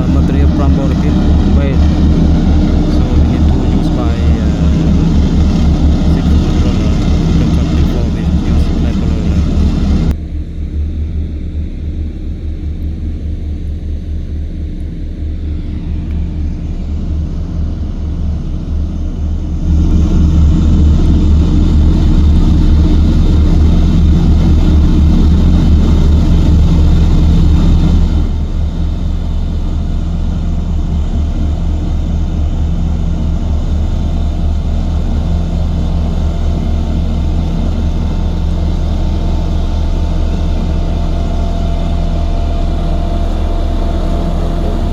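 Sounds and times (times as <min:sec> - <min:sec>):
heavy machinery engine rumble: 0:00.0 - 0:10.4, 0:15.1 - 0:44.9.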